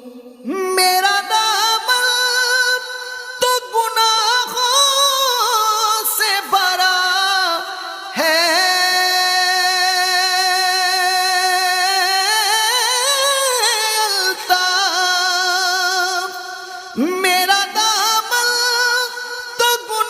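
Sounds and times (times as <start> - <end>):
person singing devotional song: 0.0 - 20.0.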